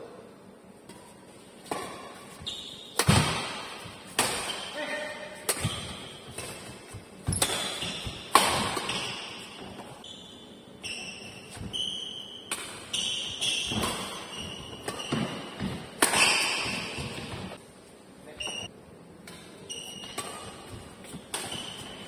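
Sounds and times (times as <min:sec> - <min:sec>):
racket hitting shuttlecock: 0:00.8 - 0:10.0, 0:11.0 - 0:17.6, 0:19.2 - 0:22.0
shoes squeaking on court: 0:01.0 - 0:05.0, 0:05.6 - 0:17.6, 0:18.4 - 0:18.7, 0:19.6 - 0:22.0.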